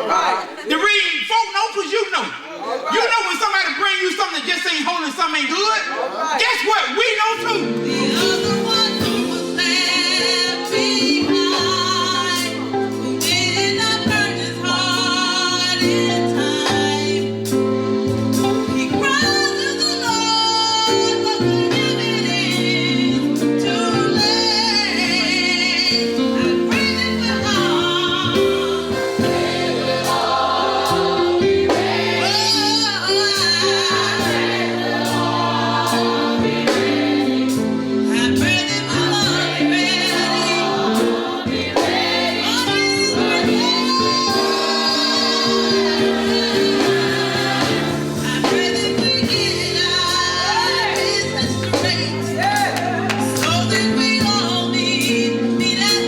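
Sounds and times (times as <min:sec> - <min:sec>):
choir singing gospel: 0:00.0 - 0:00.8, 0:06.0 - 0:56.0
sustained organ chords: 0:07.6 - 0:52.5.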